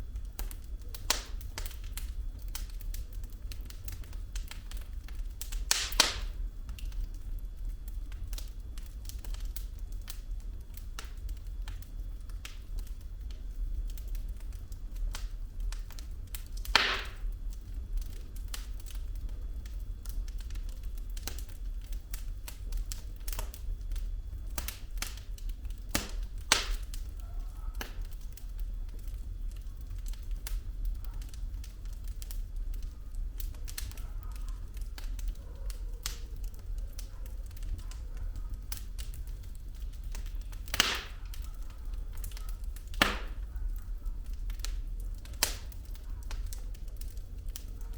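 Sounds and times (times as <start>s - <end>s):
flames rumbling: 0.0s - 47.9s
wood fire crackling: 0.0s - 47.9s
loud fire pops: 0.1s - 47.9s.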